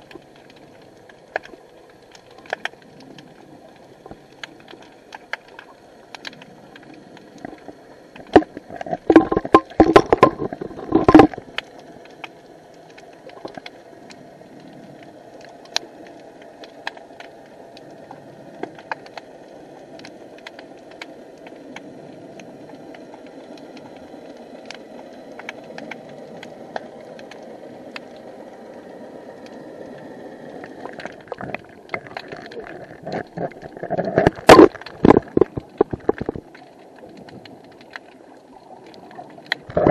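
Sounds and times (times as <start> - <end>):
sharp underwater clicks: 0.0 - 28.3, 29.4 - 39.9
muffled underwater wash: 0.0 - 39.9.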